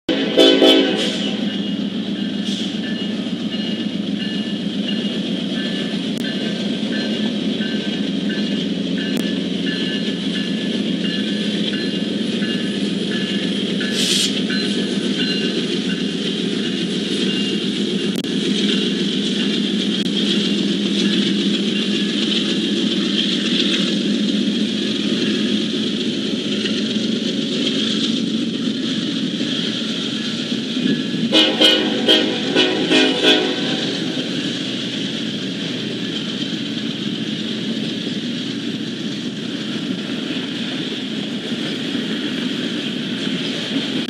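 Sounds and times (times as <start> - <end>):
diesel locomotives droning: 0.1 - 44.0.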